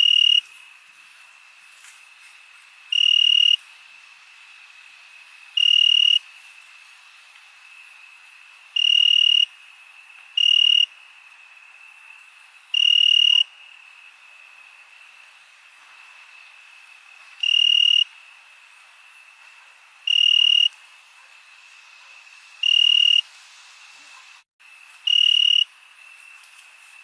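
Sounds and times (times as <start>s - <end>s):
crickets chirping chorus: 0.0s - 27.0s
nearby cricket trilling: 0.0s - 27.0s.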